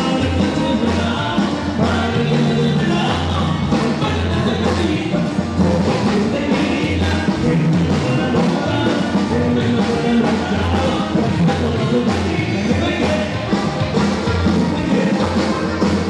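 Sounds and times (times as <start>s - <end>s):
bass line: 0.0s - 16.0s
person singing: 0.0s - 16.0s.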